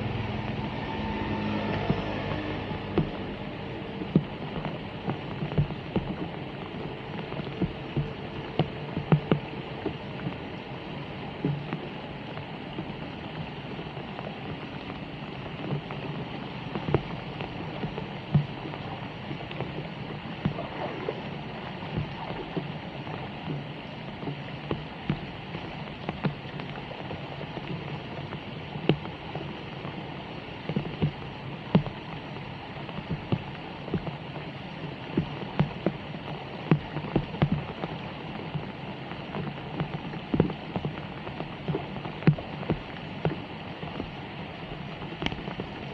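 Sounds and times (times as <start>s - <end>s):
sharp taps and splashes: 0.0s - 10.7s, 11.4s - 45.9s
steady rain on street: 0.0s - 45.9s
water running along gutter: 0.0s - 45.9s.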